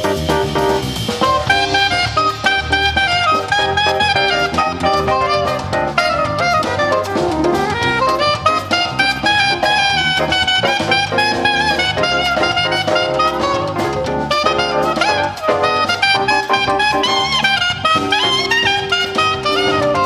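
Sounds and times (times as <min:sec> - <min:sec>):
jazz show music with horns: 0:00.0 - 0:20.0.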